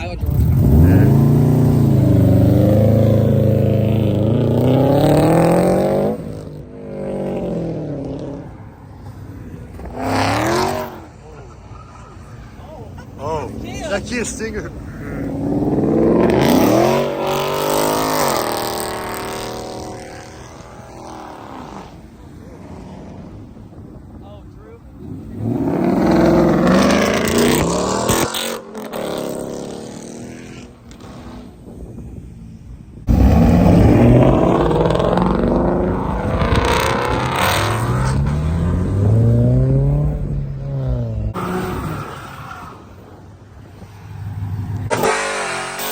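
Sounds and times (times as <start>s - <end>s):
car engine accelerating: 0.0s - 24.1s, 25.0s - 32.0s, 33.0s - 45.9s.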